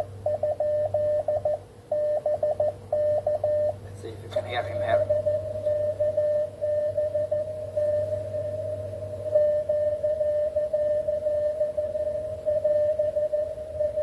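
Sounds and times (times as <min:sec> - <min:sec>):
low hum: 0:00.0 - 0:14.0
morse code beeps: 0:00.0 - 0:14.0.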